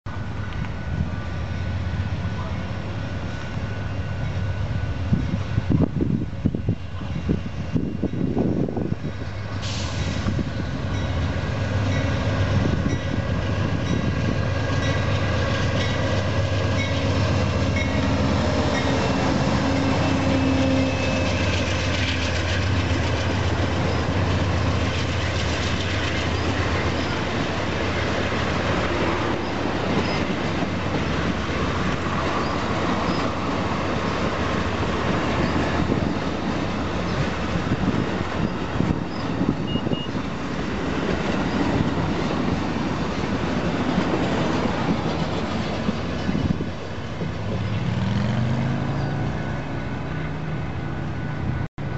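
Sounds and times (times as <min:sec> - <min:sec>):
diesel locomotive engine drone: 0:00.1 - 0:51.9
train wheels rumbling on rails: 0:00.1 - 0:51.9.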